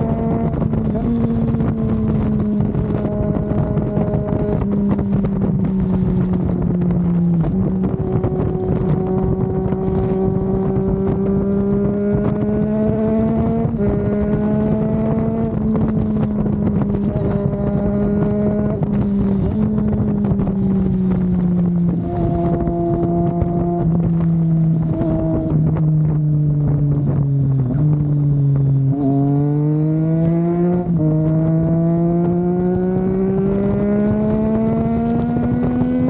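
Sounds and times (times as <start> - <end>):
motorcycle engine running: 0.0 - 36.0
wind rushing over microphone: 0.0 - 36.0.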